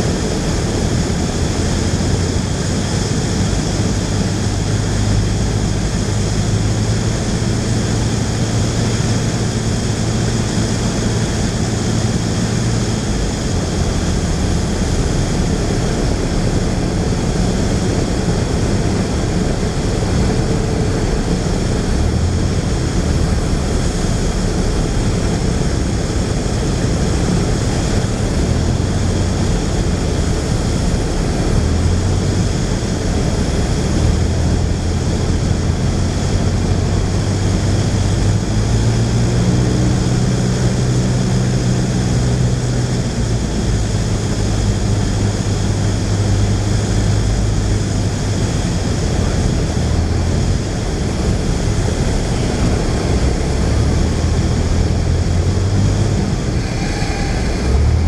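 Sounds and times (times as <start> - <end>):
propeller plane engine: 0.0 - 58.0
rush of air: 0.0 - 58.0.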